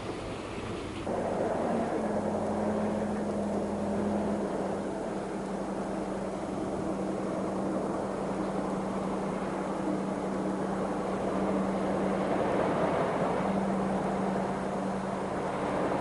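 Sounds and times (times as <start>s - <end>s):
large vehicle engine idling: 0.0s - 16.0s.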